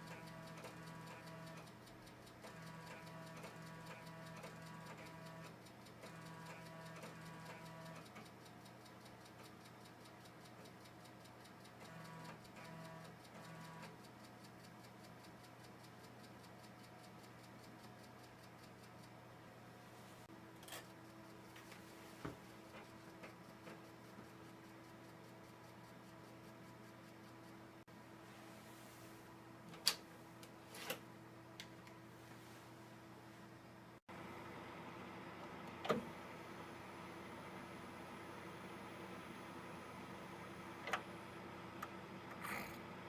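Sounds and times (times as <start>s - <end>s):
computer humming: 0.0s - 27.8s, 34.1s - 43.0s
faint ticking and whirring: 0.0s - 43.0s.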